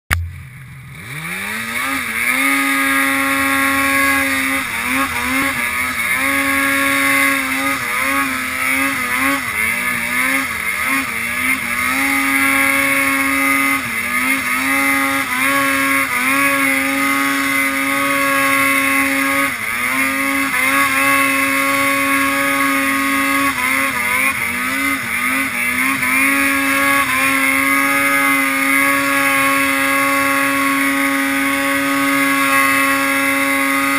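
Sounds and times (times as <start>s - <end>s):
snowmobile engine revving: 0.1s - 33.9s.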